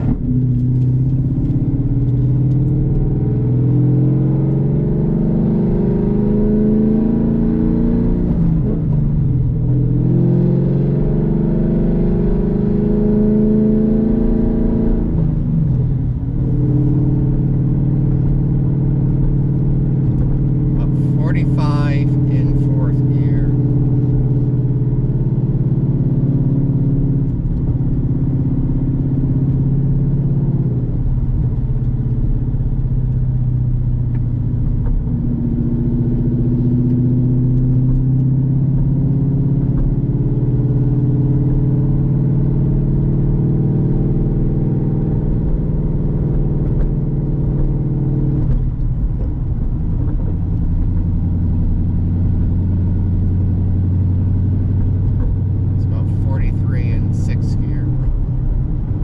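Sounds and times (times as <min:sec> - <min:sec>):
deep car exhaust drone: 0:00.0 - 0:59.0.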